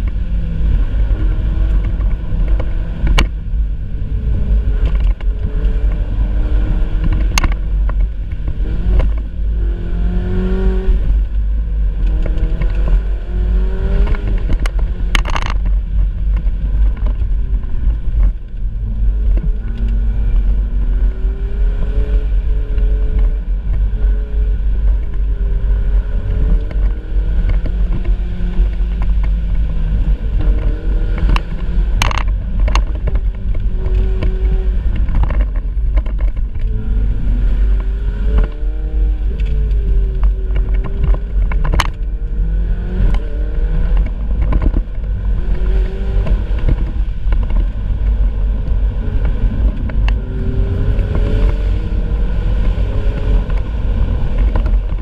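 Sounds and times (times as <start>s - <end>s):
car engine revving: 0.0s - 55.0s
constant low rumble: 0.0s - 55.0s.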